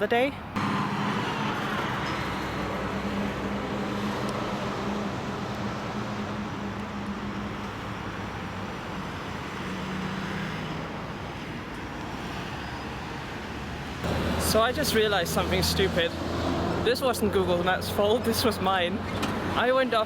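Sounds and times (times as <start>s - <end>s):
road traffic: 0.0s - 20.0s
vehicle engine hum: 0.4s - 12.5s, 13.3s - 19.7s.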